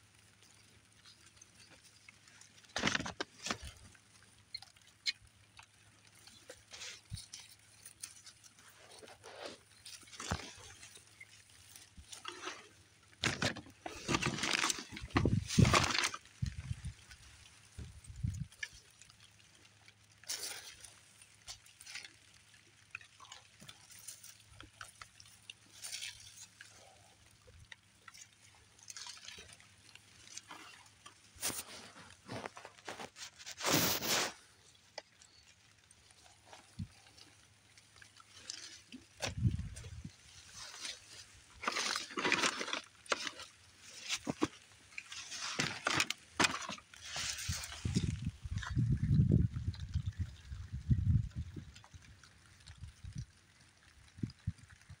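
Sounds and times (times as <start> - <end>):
leaves and branches rustling: 0.0 - 55.0.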